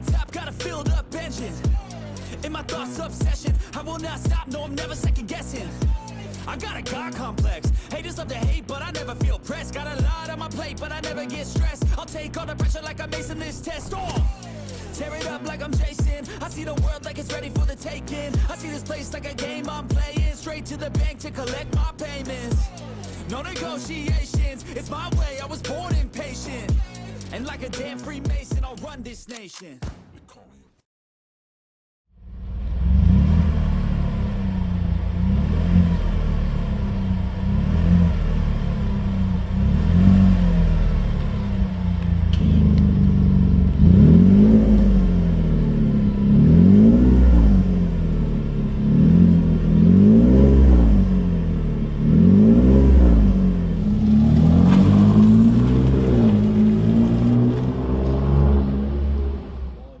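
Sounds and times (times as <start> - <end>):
truck engine idling and revving: 0.0 - 28.4, 32.2 - 60.0.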